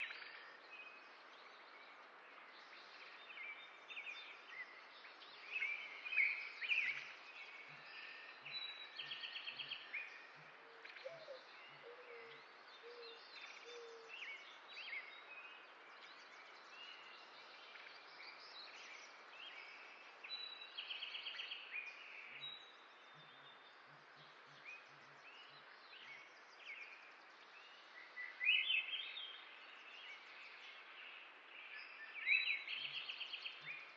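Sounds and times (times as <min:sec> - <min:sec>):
steady outdoor hiss: 0:00.0 - 0:33.9.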